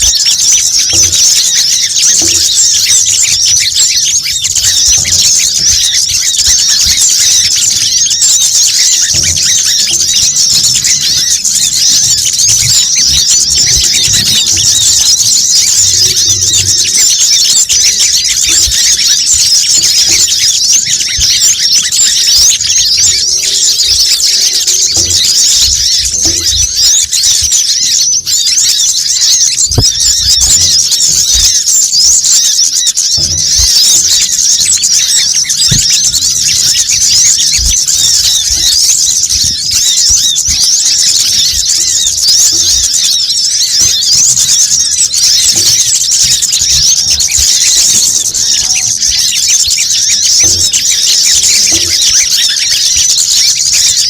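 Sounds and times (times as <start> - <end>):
flock of small birds chattering: 0.0 - 54.0.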